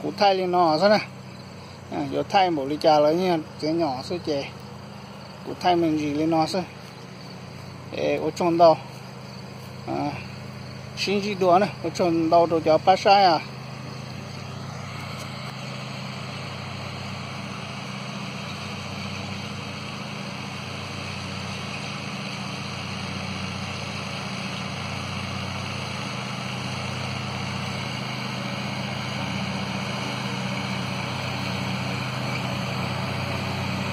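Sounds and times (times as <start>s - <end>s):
riding lawn mower engine running: 0.0s - 33.9s.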